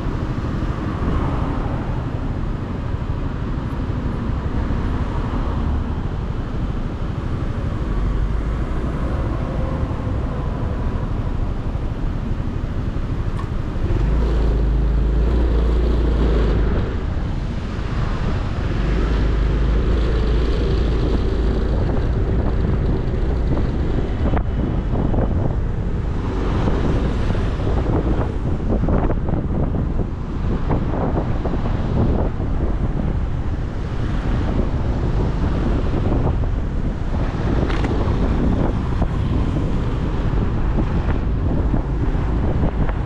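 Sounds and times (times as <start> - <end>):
motorcycle engine and road noise: 0.0 - 43.0.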